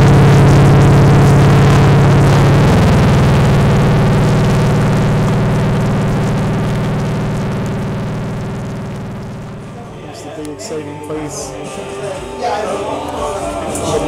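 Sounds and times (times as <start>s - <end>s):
sustained synthesizer chords: 0.0s - 11.5s.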